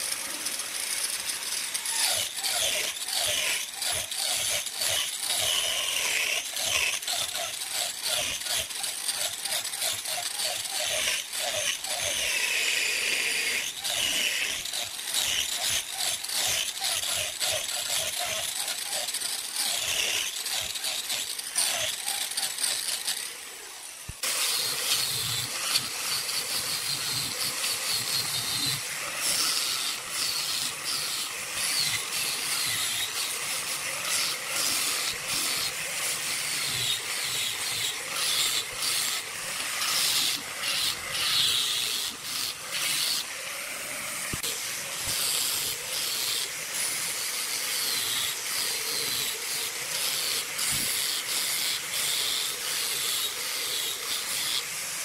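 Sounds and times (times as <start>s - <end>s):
angle grinder sanding wood: 0.0s - 55.0s.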